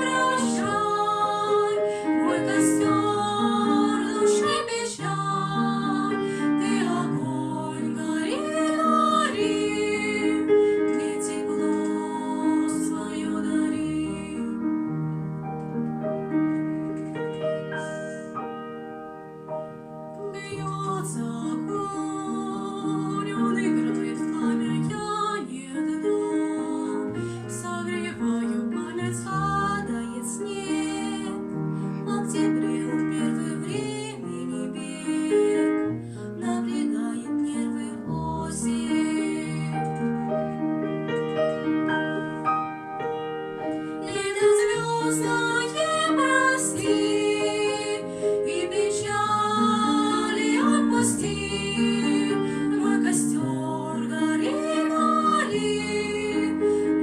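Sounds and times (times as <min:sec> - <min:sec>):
girls singing: 0:00.0 - 0:14.8, 0:20.2 - 0:40.4, 0:43.8 - 0:57.0.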